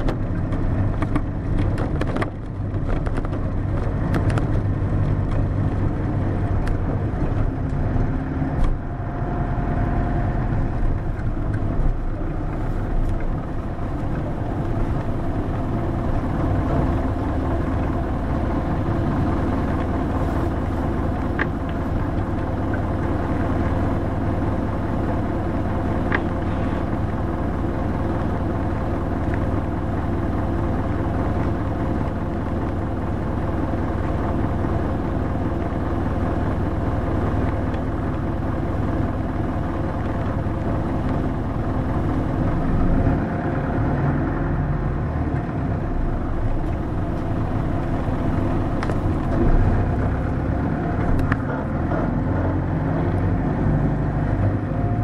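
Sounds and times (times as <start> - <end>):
bus diesel engine humming: 0.0 - 55.0.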